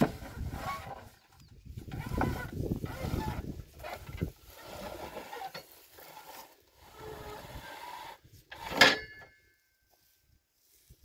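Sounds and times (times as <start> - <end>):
wood and hay scraping: 0.0 - 11.0.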